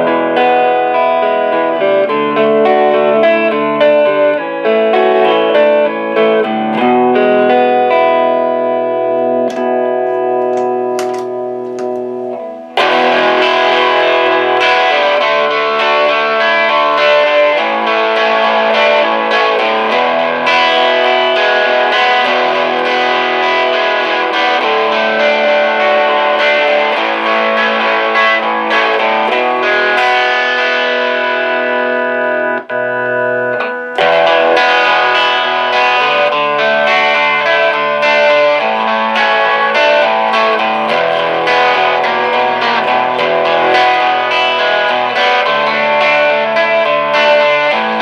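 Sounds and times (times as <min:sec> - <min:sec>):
overdriven electric guitar: 0:00.0 - 0:48.0.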